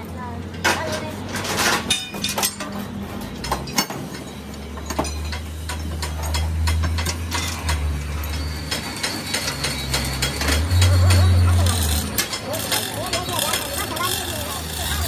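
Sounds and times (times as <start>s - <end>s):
steel chains clinking and rattling: 0.9s - 15.0s.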